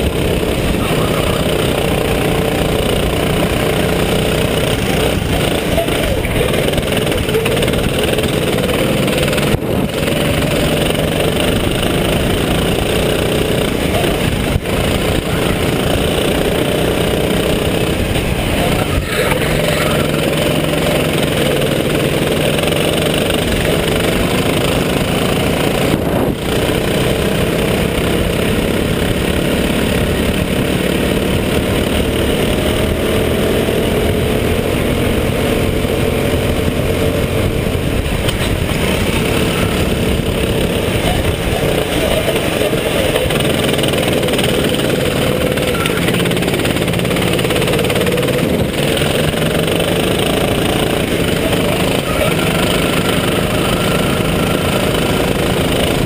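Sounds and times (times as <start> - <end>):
kart engine running hard: 0.0 - 56.0
steady rushing noise: 0.0 - 56.0.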